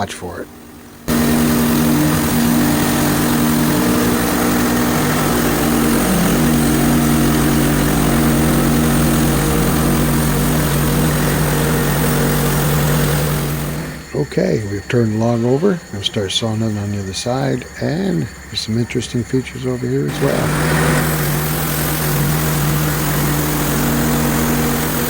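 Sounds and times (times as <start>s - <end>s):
gas engine running: 0.0s - 25.0s.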